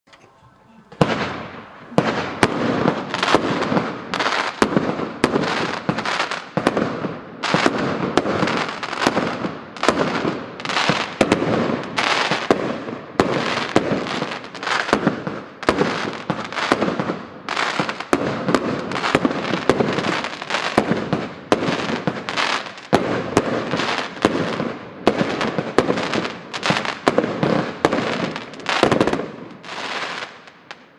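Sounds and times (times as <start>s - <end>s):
fireworks bangs: 0.2s - 30.9s.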